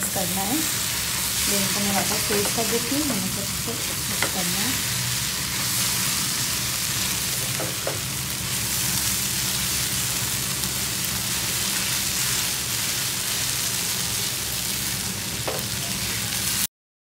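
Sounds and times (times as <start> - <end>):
food sizzling in a frying pan: 0.0 - 16.7.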